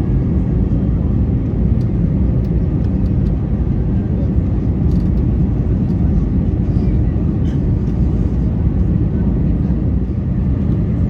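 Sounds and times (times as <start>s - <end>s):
jet airliner engine rumble: 0.0s - 11.0s.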